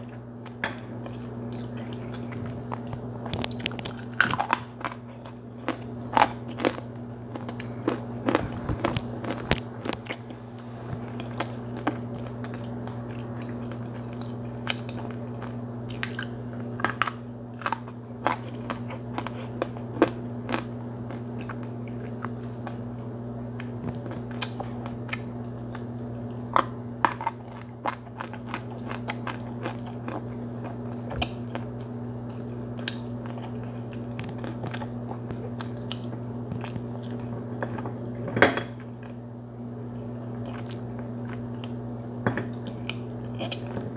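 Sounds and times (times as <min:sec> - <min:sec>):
crunching and chewing hard clay: 0:00.0 - 0:10.4, 0:11.0 - 0:37.9, 0:39.8 - 0:43.9
steady low hum: 0:00.0 - 0:43.9.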